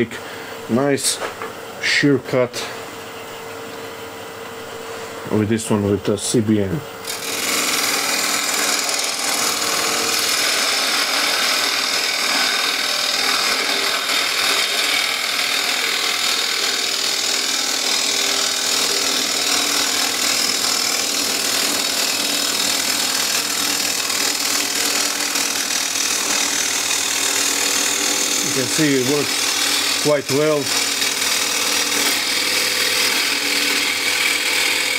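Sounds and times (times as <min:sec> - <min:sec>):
lathe humming: 0:04.5 - 0:34.9.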